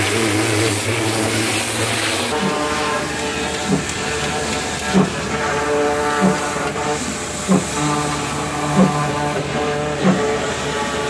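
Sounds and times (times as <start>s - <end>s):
concrete pump knocking: 0.0s - 11.0s
mechanical hum and whine: 0.0s - 11.0s.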